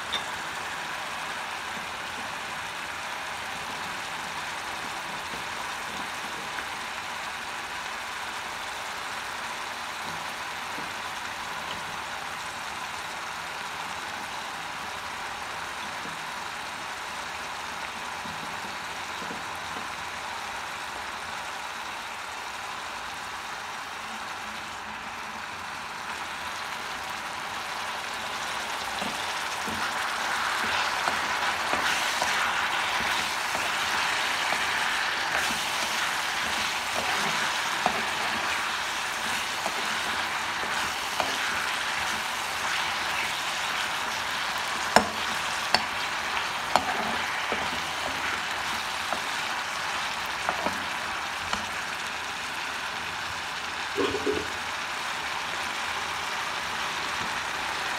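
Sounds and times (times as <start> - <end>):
food sizzling in oil: 0.0 - 57.9.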